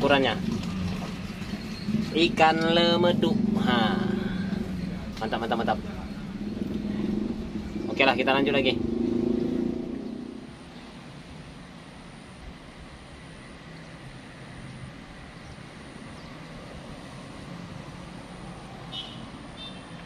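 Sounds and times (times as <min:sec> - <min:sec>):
distant road traffic hum: 0:00.0 - 0:20.0.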